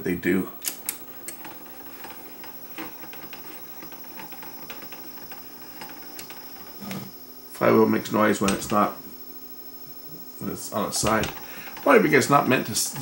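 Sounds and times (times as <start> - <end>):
flywheel humming: 0.6 - 13.0.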